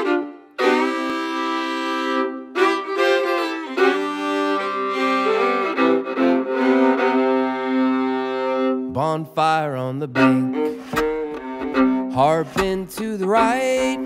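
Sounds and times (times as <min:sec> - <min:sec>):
fiddles bowing in harmony: 0:00.0 - 0:09.0, 0:09.8 - 0:14.0.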